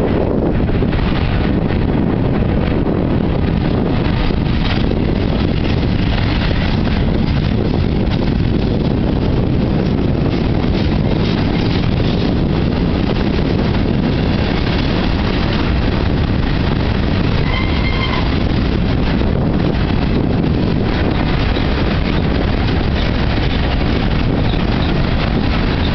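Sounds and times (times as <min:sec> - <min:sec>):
freight train rumbling: 0:00.0 - 0:25.9.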